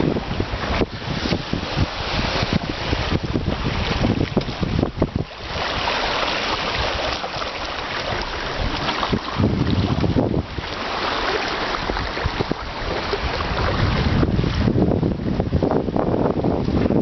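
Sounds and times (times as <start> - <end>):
rush of sea water: 0.0 - 17.0
wind buffeting microphone: 0.0 - 17.0.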